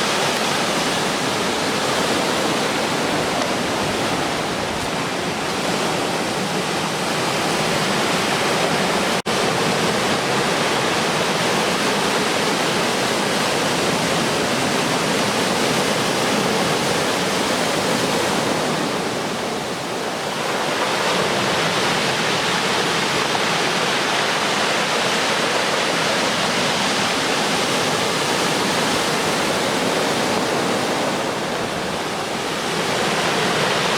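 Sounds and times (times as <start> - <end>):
surf breaking on a beach: 0.0 - 33.9.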